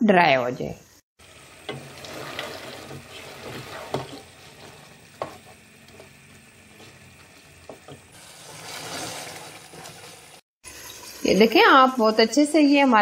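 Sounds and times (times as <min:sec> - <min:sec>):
meat sizzling in a pot: 0:01.2 - 0:13.0.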